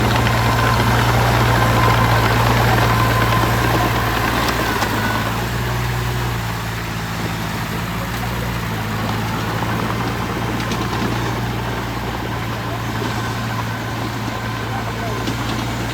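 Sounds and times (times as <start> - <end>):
heavy machinery engine running: 0.0 - 15.9.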